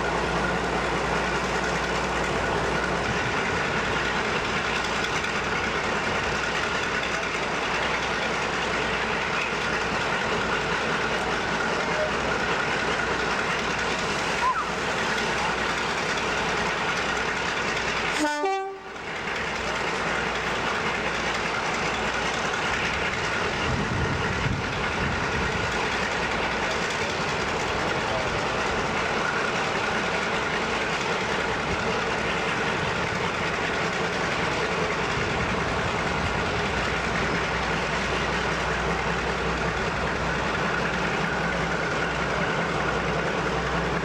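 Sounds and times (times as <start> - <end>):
locomotive engine running: 0.0 - 44.0.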